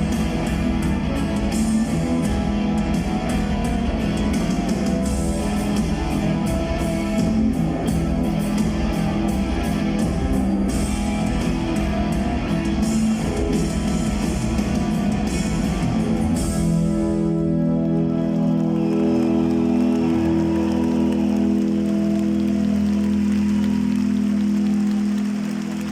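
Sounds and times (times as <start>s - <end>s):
drums hitting steadily: 0.0s - 25.9s
rock band playing live: 0.0s - 25.9s.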